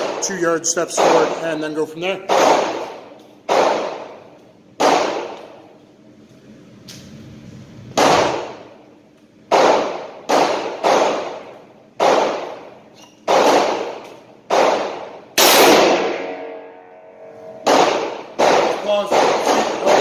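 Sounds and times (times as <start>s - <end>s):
revolver shots echoing indoors: 0.0s - 6.1s, 6.7s - 20.0s.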